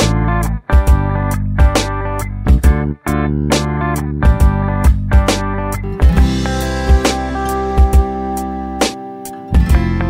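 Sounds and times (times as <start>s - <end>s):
guitar instrumental with beats: 0.0s - 10.0s.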